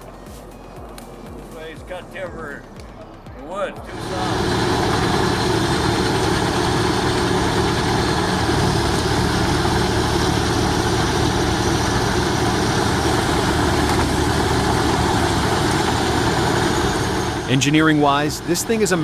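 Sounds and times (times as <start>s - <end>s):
large machine engine running: 2.1s - 19.0s.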